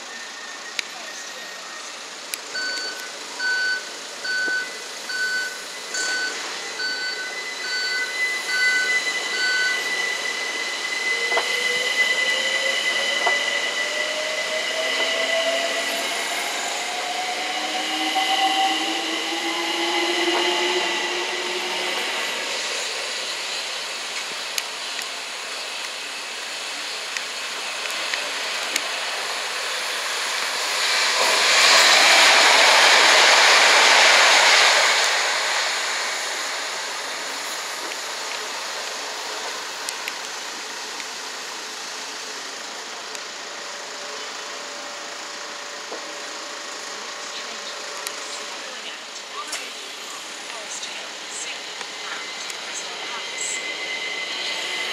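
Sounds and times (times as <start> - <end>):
electric train motors whining: 0.0 - 54.9
train passing at speed: 0.0 - 54.9.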